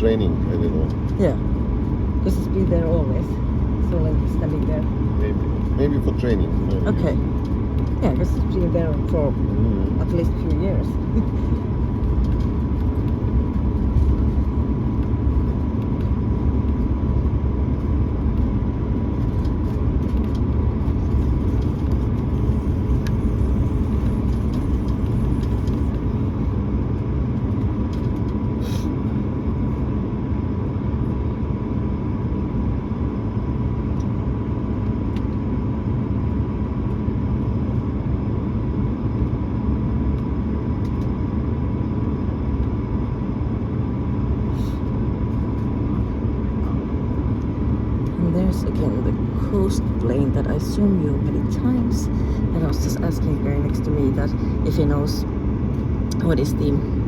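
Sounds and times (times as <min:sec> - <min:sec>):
aircraft cabin rumble: 0:00.0 - 0:57.0
thin steady whine: 0:00.0 - 0:57.0.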